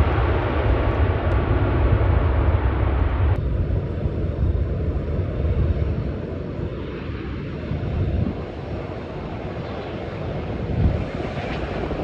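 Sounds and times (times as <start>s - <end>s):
departing jet dull rumble: 0.0s - 12.0s
jet engines at takeoff: 0.0s - 12.0s.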